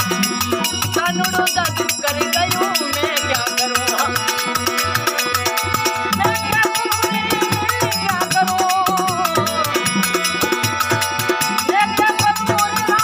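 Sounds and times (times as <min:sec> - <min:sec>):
hand drum beat: 0:00.0 - 0:13.0
rattling percussion: 0:00.0 - 0:13.0.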